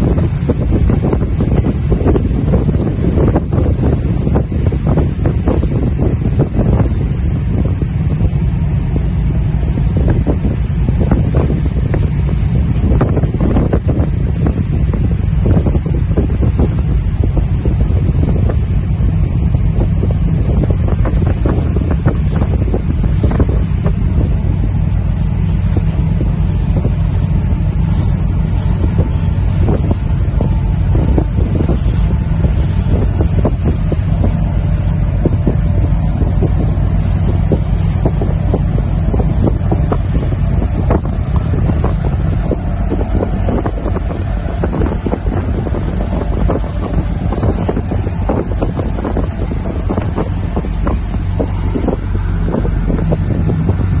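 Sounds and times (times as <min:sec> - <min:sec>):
boat engine rumbling: 0:00.0 - 0:54.0
wind buffeting microphone: 0:00.0 - 0:54.0.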